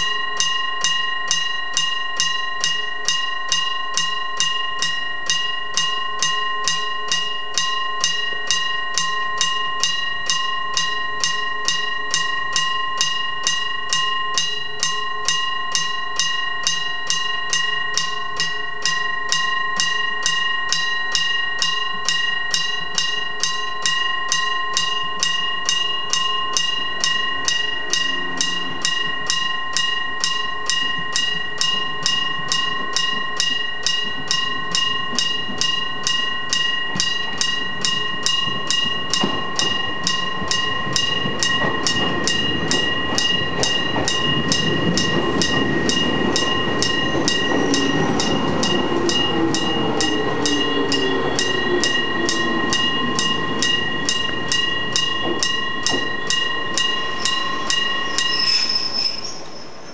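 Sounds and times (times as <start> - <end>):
level crossing bell ringing: 0.0 - 59.4.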